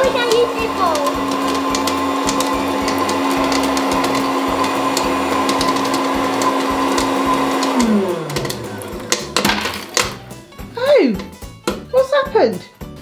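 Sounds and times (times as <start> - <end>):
popcorn machine motor humming: 0.0 - 11.8.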